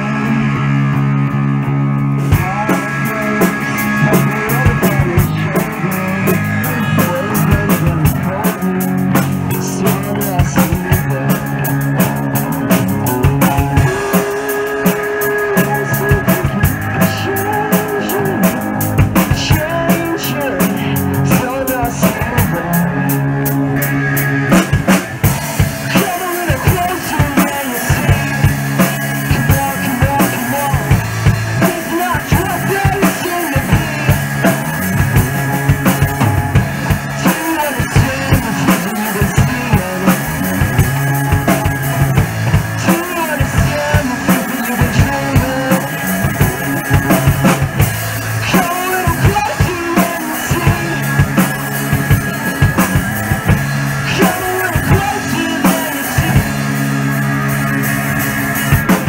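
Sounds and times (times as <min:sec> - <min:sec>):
drum kit beat: 0:00.0 - 0:59.0
rock band playing: 0:00.0 - 0:59.0.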